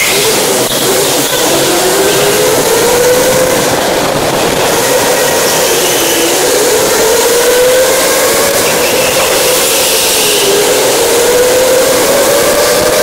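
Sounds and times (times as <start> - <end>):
go-kart motor whine: 0.0 - 13.0
loud steady rushing noise: 0.0 - 13.0.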